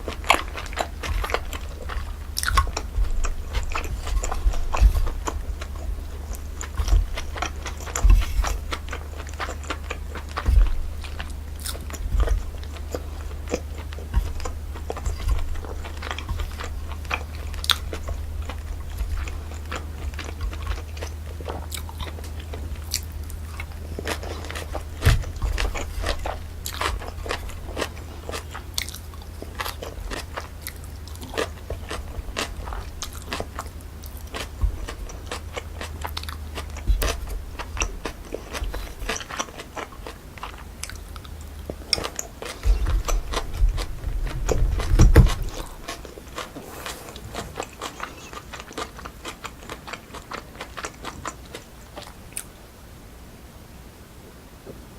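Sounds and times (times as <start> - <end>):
close chewing and crunching: 0.0 - 52.8
steady low hum: 0.0 - 54.9.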